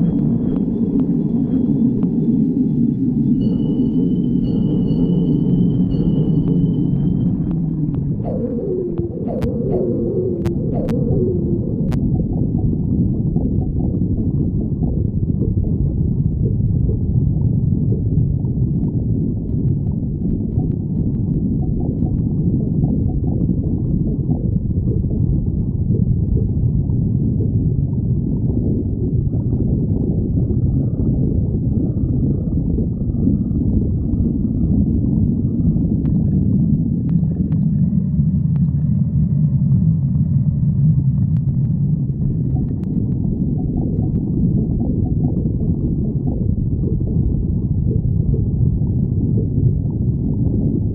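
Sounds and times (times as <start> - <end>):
stomach growling and gurgling: 0.0 - 50.9
squeaky stomach gurgles: 3.1 - 39.5, 41.1 - 50.9.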